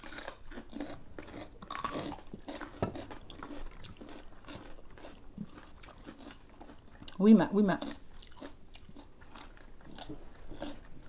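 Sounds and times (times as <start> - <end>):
chewing: 0.0 - 11.0
crunching cucumber: 0.0 - 11.0.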